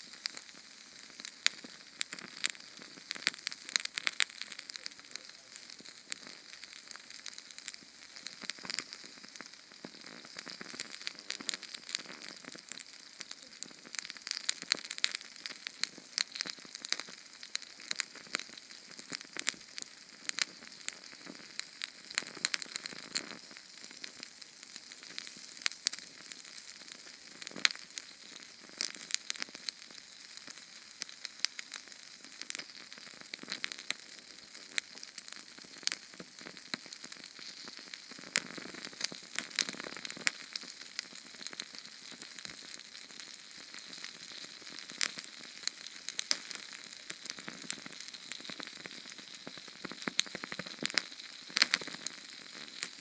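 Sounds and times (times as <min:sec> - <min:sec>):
small flame crackling: 0:00.0 - 0:53.0.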